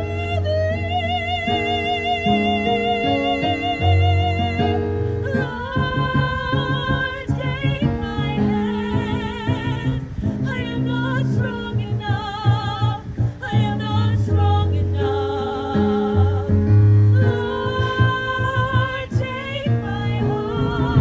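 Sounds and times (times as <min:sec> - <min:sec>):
low sustained notes: 0:00.0 - 0:21.0
vocal ensemble singing: 0:02.2 - 0:21.0.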